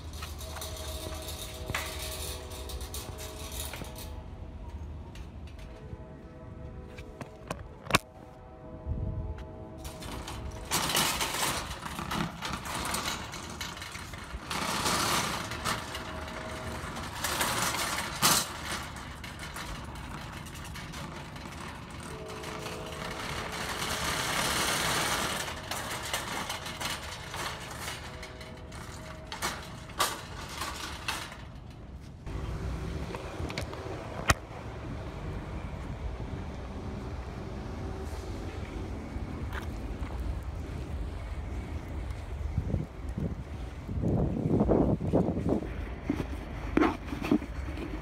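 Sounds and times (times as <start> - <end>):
shopping cart rattling on pavement: 0.0 - 5.8, 9.8 - 48.0.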